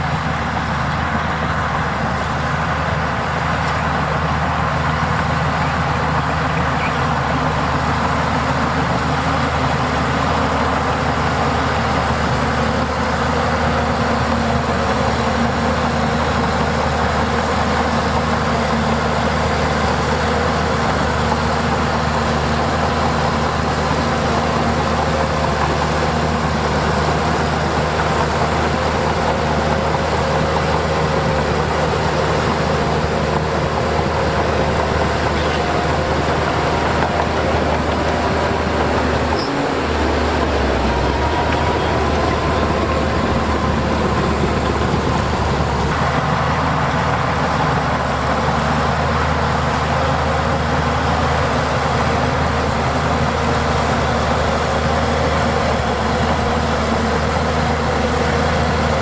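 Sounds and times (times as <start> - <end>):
diesel machinery engine running: 0.0 - 59.0.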